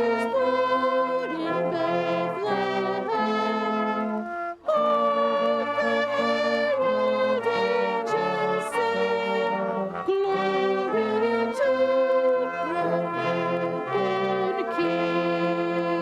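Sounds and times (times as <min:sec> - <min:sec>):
brass band playing chords: 0:00.0 - 0:16.0.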